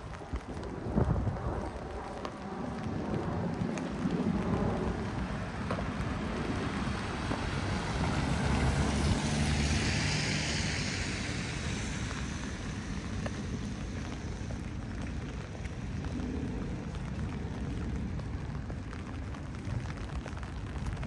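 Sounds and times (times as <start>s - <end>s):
steady rain: 0.0s - 21.0s
vehicle engine rumble: 0.0s - 21.0s.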